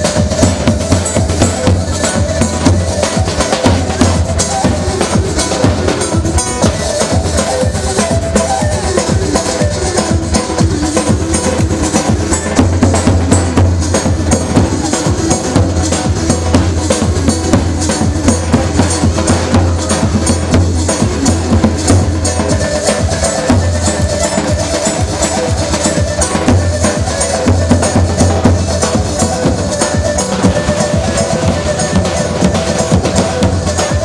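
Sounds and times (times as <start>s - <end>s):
fast percussion beat: 0.0s - 34.0s.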